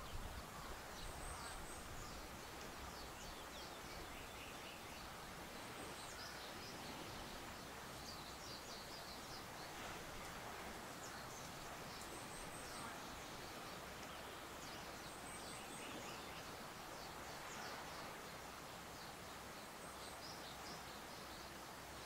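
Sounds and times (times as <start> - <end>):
small birds chirping: 0.0 - 22.0
wind through tall grass: 0.0 - 22.0.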